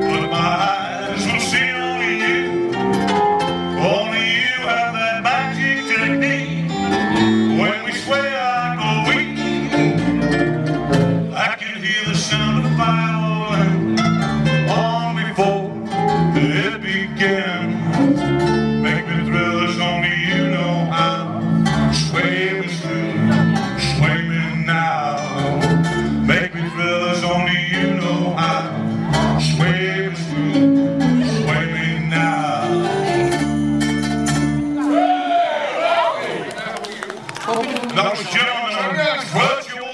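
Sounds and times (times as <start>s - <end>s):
steady bass line: 0.0s - 35.1s
live band playing: 0.0s - 35.4s
guitars: 0.0s - 35.8s.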